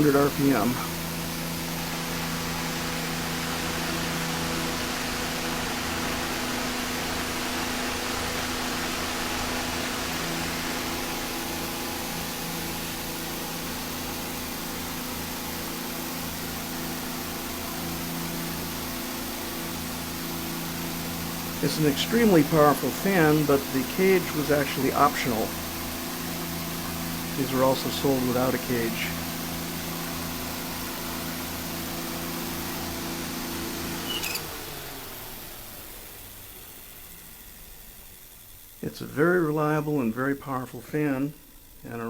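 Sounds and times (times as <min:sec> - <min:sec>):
fan air rushing: 0:00.0 - 0:42.0
fan motor hum: 0:00.0 - 0:42.0.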